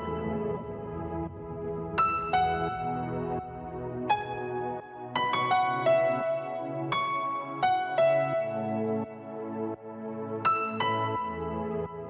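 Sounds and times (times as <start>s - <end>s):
electronic music with piano notes: 0.0s - 12.0s.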